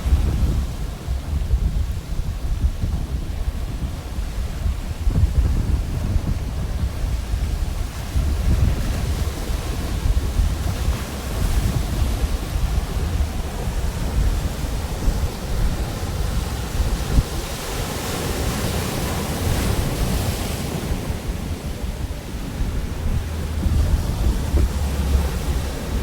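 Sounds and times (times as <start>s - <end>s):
surf breaking on a beach: 0.0s - 26.0s
wind on the microphone: 0.0s - 26.0s.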